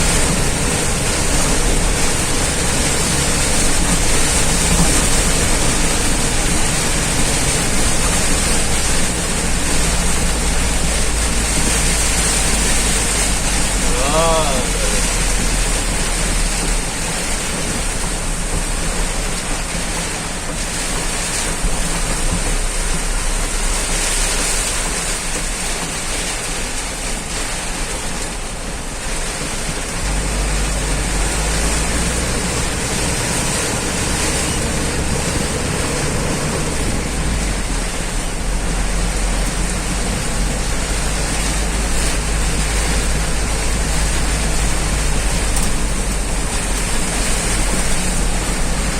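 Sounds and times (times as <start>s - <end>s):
heavy rain roaring: 0.0s - 48.9s.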